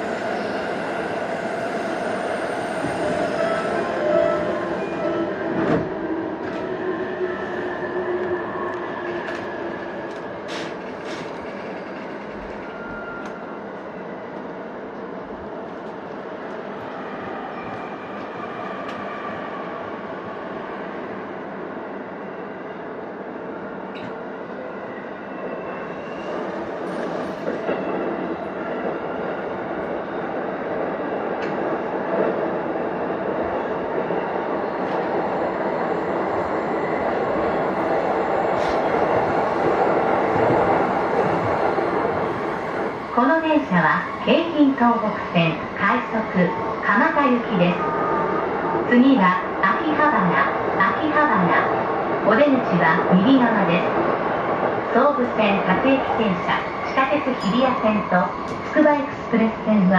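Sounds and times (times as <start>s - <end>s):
train wheels rolling on rail: 0.0s - 16.9s, 25.4s - 59.2s.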